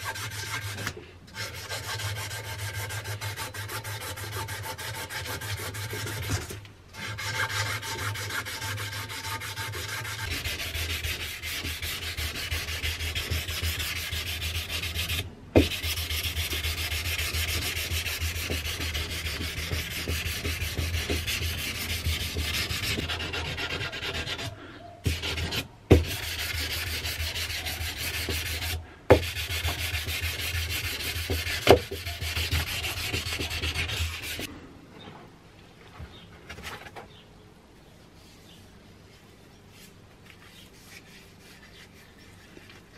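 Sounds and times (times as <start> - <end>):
sandpaper rasping on wood: 0.0 - 34.5, 40.4 - 42.7.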